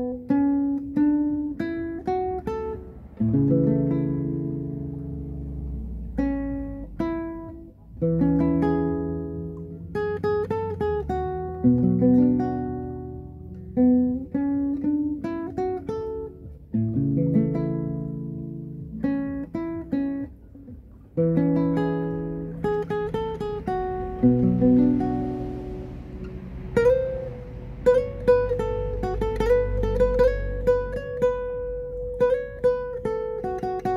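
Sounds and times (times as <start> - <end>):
fingerstyle acoustic guitar: 0.0 - 33.9.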